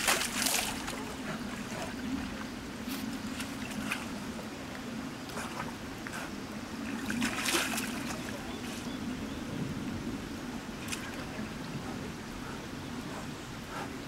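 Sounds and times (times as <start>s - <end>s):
bear lapping water: 0.0s - 8.9s, 10.8s - 14.0s
steady low hum: 0.0s - 14.0s.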